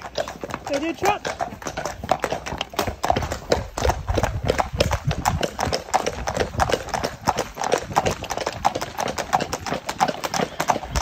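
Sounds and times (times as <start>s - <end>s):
horse hooves on pavement: 0.0s - 11.0s.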